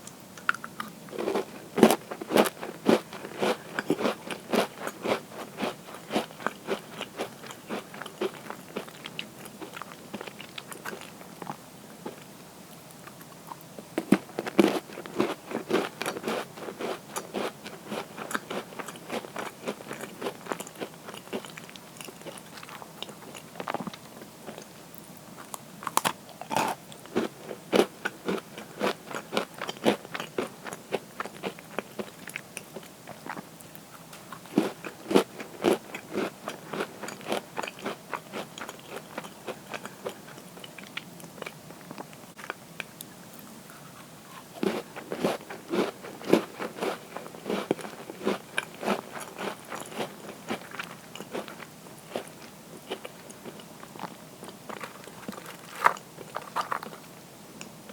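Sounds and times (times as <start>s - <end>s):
crunching crisp cookies: 0.4s - 57.9s.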